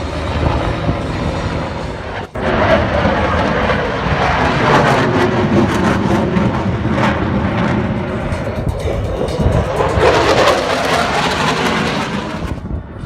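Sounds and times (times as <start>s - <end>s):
aircraft engines in flight: 0.0s - 13.0s.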